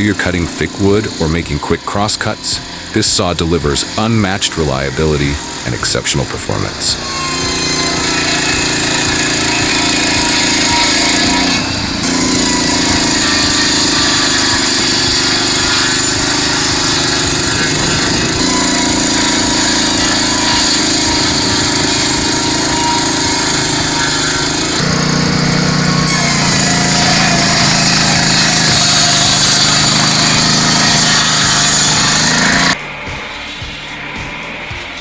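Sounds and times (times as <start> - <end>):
petrol circular saw cutting: 0.0 - 35.0.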